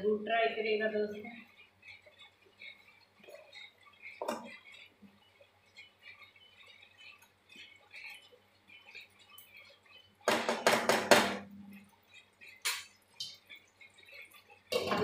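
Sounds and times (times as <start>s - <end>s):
spatula scraping metal pan: 0.0s - 15.0s.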